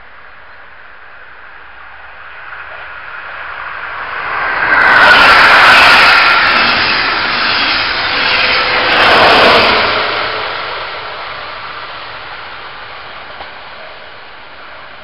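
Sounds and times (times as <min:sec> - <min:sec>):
train passing at speed: 0:00.0 - 0:15.0
wheels rushing on rails: 0:00.0 - 0:15.0.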